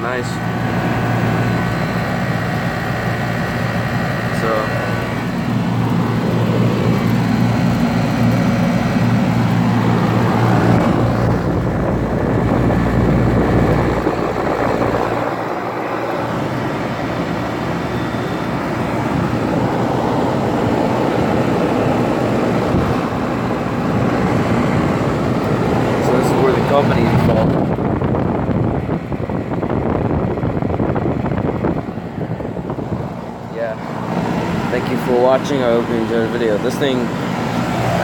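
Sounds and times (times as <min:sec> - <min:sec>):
compressor humming: 0:00.0 - 0:38.0
fan air rushing: 0:00.0 - 0:38.0.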